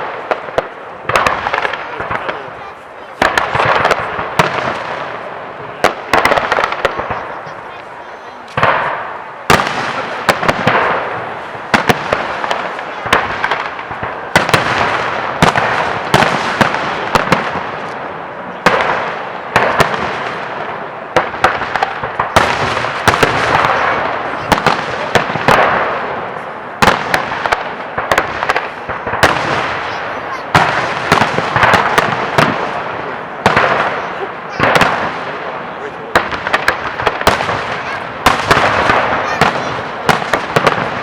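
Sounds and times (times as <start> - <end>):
firework crackling: 0.0 - 41.0.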